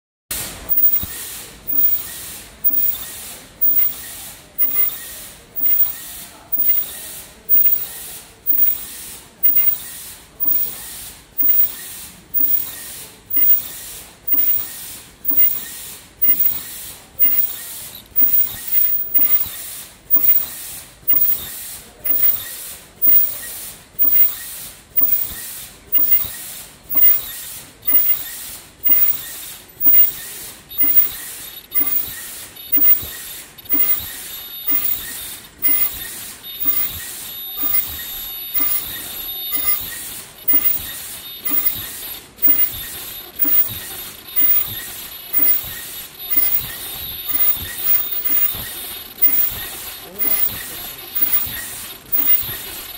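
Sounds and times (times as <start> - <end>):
machine hissing stroke: 0.3 - 52.9.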